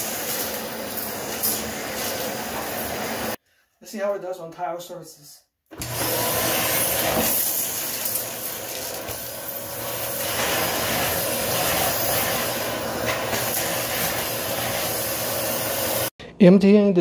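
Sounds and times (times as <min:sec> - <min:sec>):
vacuum cleaner running: 0:00.0 - 0:03.4, 0:05.7 - 0:16.1.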